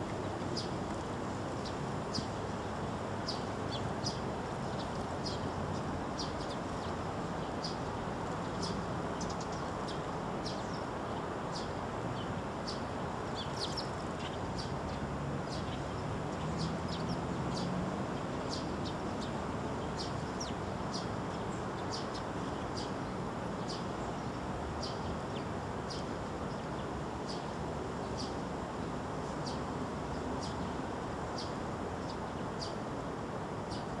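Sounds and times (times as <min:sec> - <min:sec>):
low background noise: 0:00.0 - 0:34.0
sparrows chirping: 0:00.3 - 0:32.9, 0:33.6 - 0:34.0.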